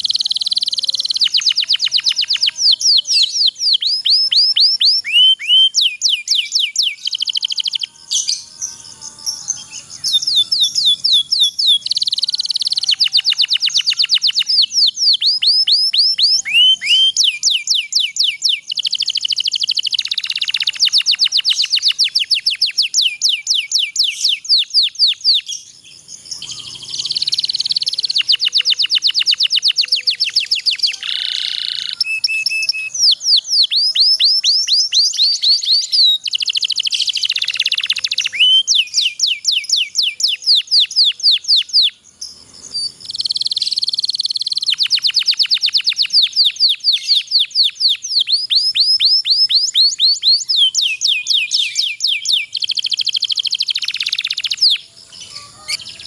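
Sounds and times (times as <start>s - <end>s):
canary singing rolling trills: 0.0s - 56.0s.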